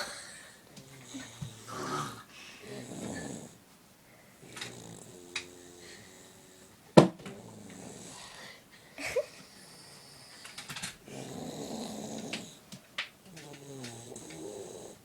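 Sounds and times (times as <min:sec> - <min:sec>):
child snoring: 0:00.0 - 0:03.6, 0:04.4 - 0:08.6, 0:09.6 - 0:12.7, 0:13.3 - 0:15.0.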